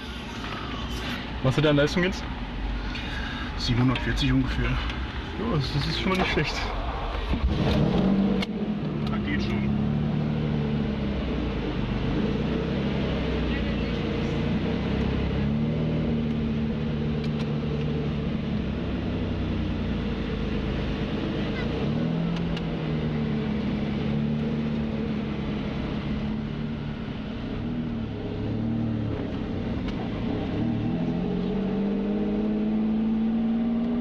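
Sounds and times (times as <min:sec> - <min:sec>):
car engine heard from inside cabin: 0:00.0 - 0:34.0.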